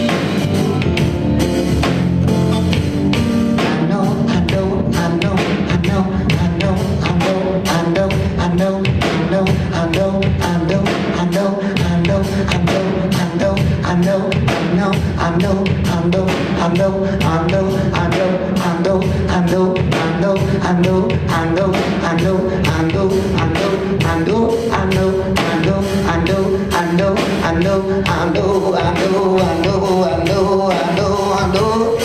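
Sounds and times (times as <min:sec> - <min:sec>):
bass line: 0:00.0 - 0:32.0
drum beat: 0:00.0 - 0:32.0
wordless singing voice: 0:03.6 - 0:32.0.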